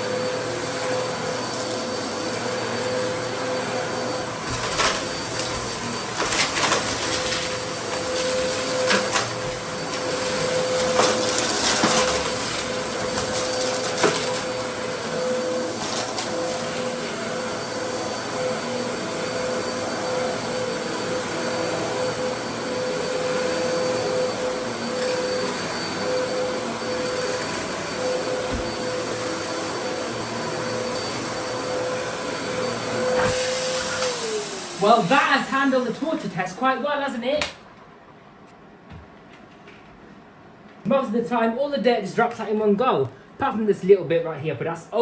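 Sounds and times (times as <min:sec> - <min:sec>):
vacuum cleaner whining: 0:00.0 - 0:37.5.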